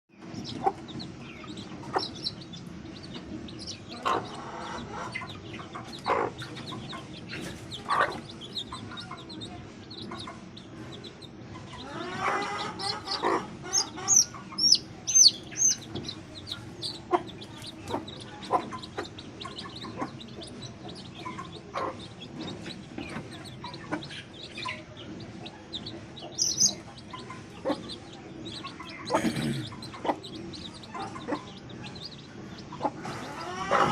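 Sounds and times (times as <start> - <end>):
chicks peeping: 0.1 - 33.9
hen clucking: 0.2 - 33.9
steady low hum: 0.2 - 33.9.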